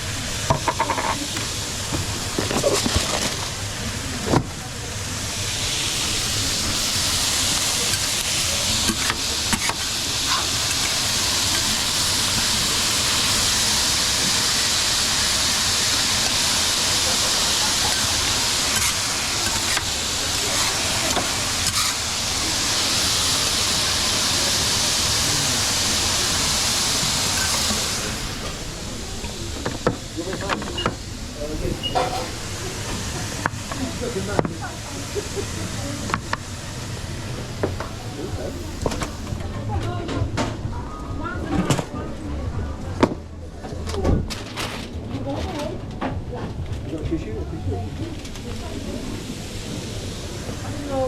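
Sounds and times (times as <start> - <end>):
food sizzling in a pan: 0.0 - 39.5, 47.9 - 51.0.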